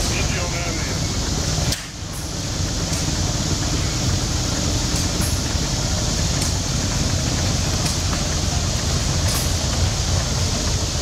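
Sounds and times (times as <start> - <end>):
steam engine rumbling: 0.0 - 11.0.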